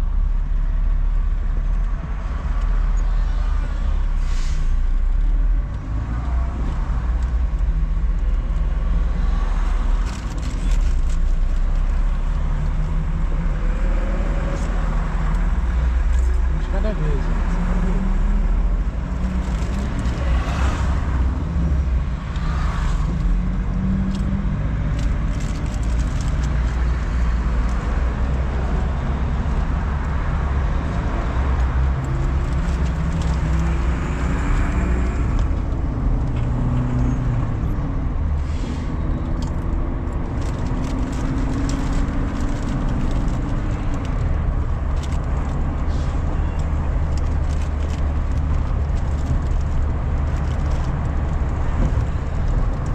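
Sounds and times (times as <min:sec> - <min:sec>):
car engine: 0:00.0 - 0:52.9
road rumble: 0:00.0 - 0:52.9.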